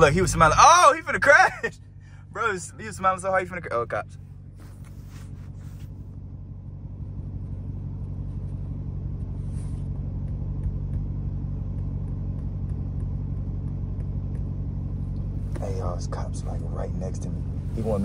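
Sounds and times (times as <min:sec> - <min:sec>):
car engine low rumble: 0:00.0 - 0:18.0.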